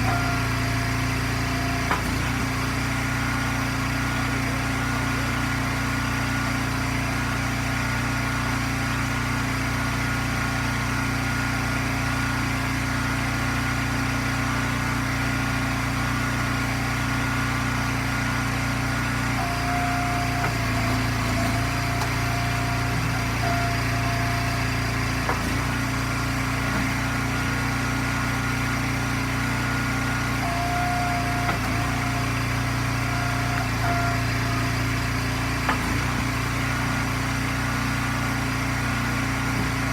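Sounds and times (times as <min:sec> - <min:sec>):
gas engine running: 0:00.0 - 0:39.9.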